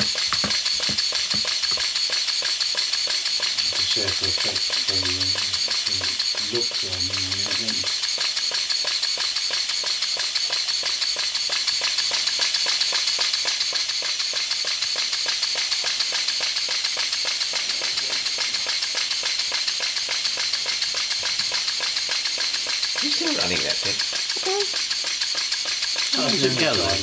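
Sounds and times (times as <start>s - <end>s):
steam engine exhaust beats: 0.0s - 27.0s.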